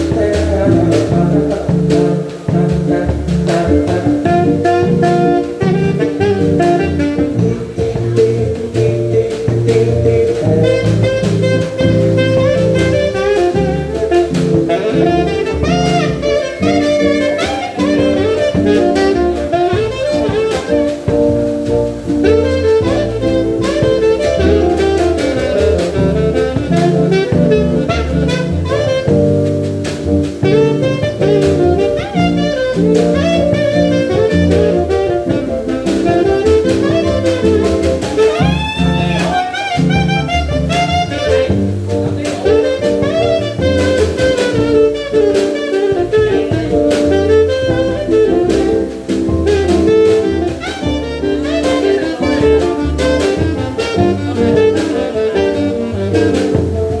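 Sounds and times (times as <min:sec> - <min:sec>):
alto saxophone jazz melody: 0:00.0 - 0:57.0
bass line: 0:00.0 - 0:57.0
drums: 0:00.0 - 0:57.0.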